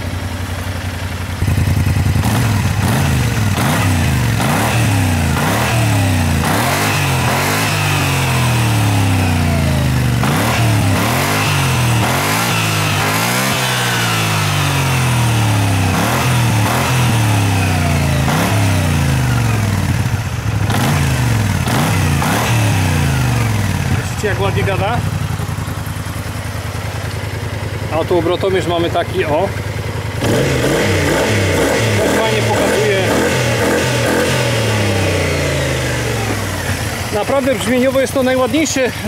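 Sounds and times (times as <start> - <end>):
scooter engine revving: 0.0 - 39.0.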